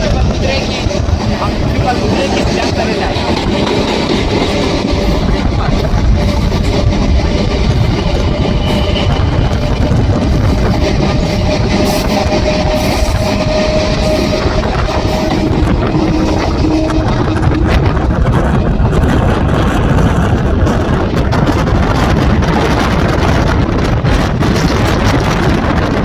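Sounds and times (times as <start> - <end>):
held whine: 0.0 - 25.9
train rumbling on rails: 0.0 - 26.0.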